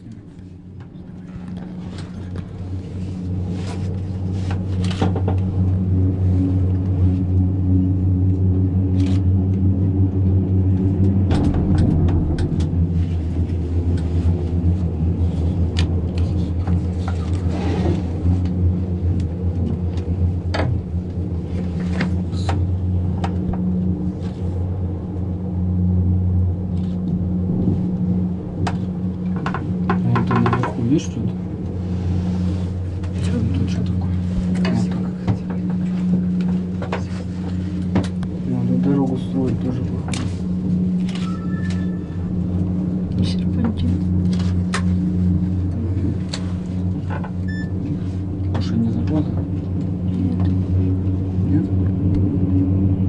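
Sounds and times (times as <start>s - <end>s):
gondola cabin rumble and hum: 0.0s - 53.0s.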